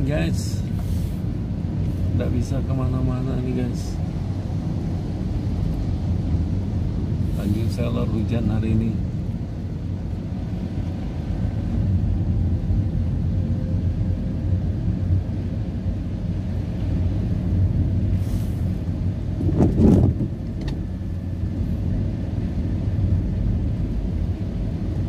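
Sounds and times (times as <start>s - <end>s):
engine and tyre rumble: 0.0s - 25.0s.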